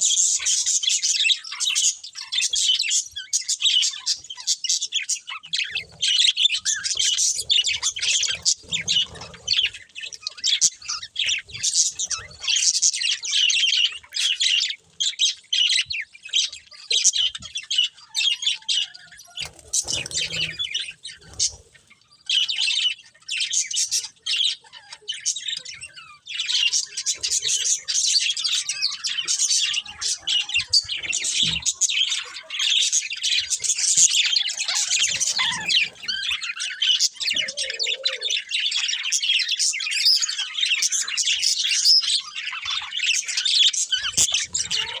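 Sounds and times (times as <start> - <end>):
budgerigars chirping and chattering: 0.0 - 45.0.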